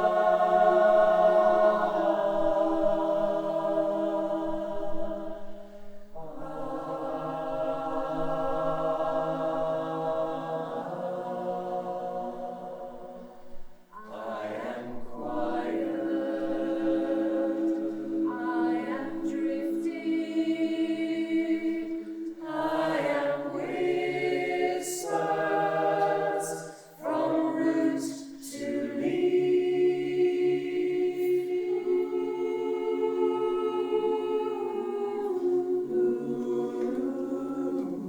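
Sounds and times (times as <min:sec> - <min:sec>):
choir singing a cappella: 0:00.0 - 0:38.0.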